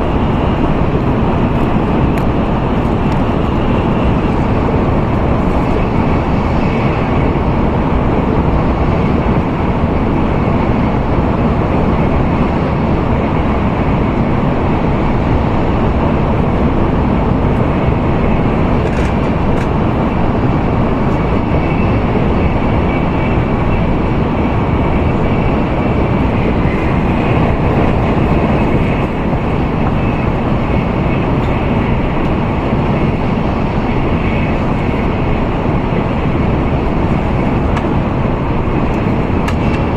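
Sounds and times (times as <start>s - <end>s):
faint high whine: 0.0s - 39.9s
train wheels and air rumble: 0.0s - 39.9s.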